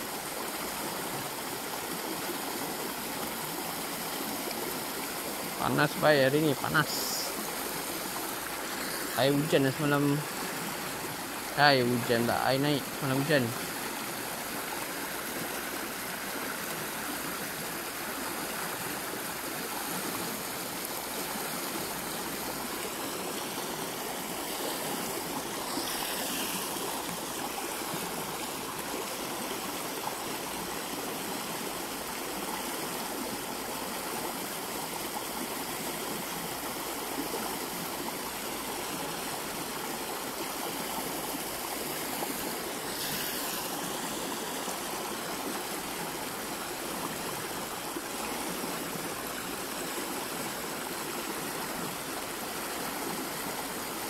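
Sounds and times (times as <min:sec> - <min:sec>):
creek rushing over shallows: 0:00.0 - 0:54.0.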